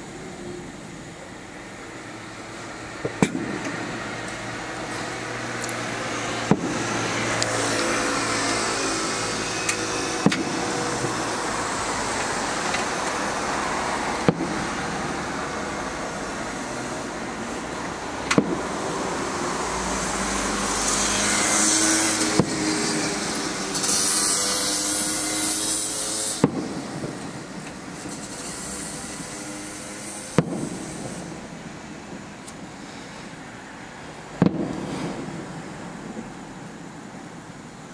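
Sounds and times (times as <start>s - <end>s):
passing vehicles rumbling: 0.0s - 37.9s
firework shells bursting: 2.5s - 13.5s, 14.1s - 19.0s, 20.8s - 33.4s, 34.4s - 37.6s.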